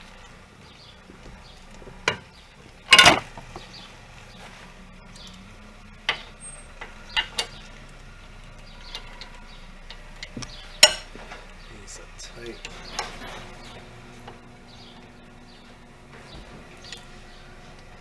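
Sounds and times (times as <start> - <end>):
metallic clatter: 1.5 - 3.8, 5.2 - 18.0.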